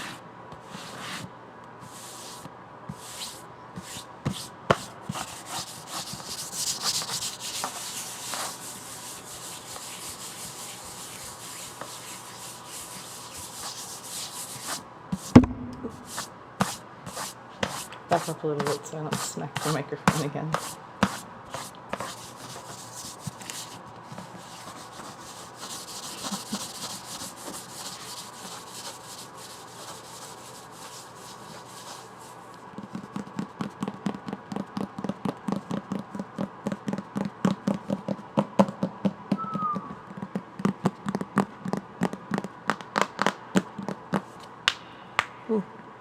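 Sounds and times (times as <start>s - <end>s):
fingers rubbing a book: 0.0s - 15.3s, 16.0s - 38.0s.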